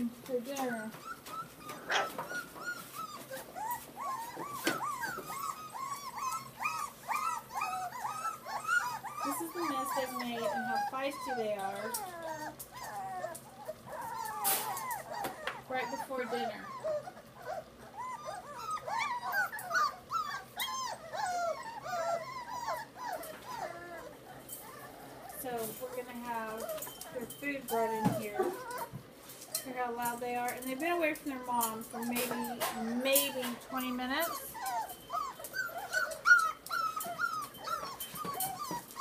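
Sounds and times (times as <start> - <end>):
puppies whining and yelping: 0.0 - 39.0.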